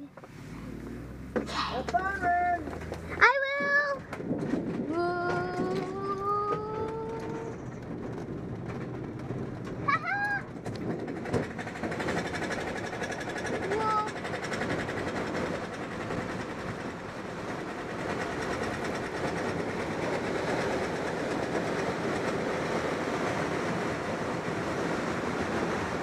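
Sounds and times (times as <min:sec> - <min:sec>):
airframe and canopy rattling: 0:00.0 - 0:26.0
wheel rumbling over rough ground: 0:00.0 - 0:26.0.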